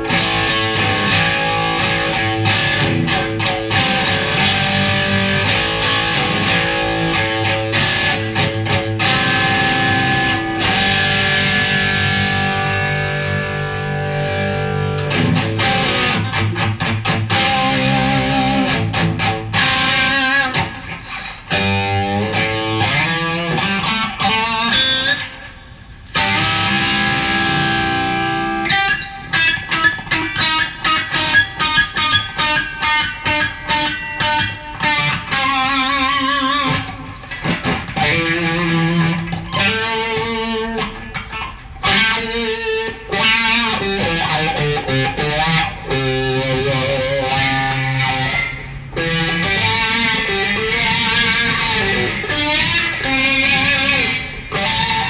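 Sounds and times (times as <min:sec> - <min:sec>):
overdriven electric guitar: 0:00.0 - 0:55.0.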